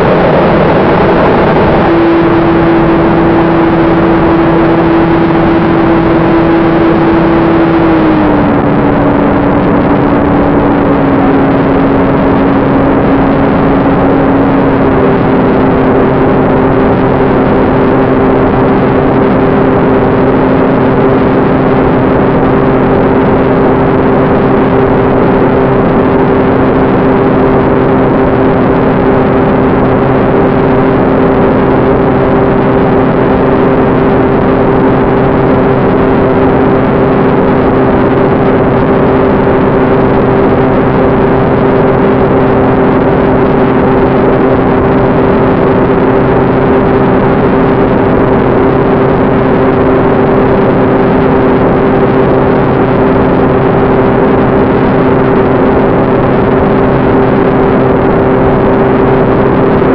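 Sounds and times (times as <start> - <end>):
electric ducted fan whine: 0.0 - 59.9
rushing air noise: 0.0 - 59.9.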